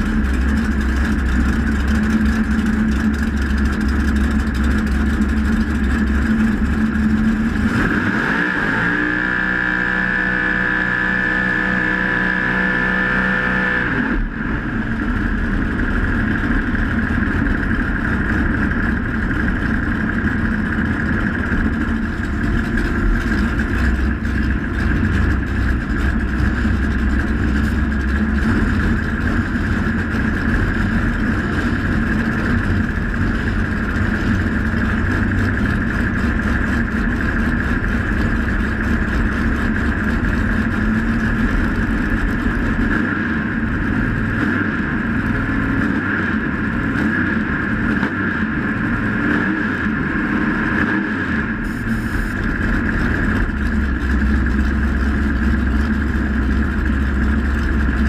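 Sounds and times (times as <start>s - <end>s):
race engine idling loudly: 0.0s - 58.0s.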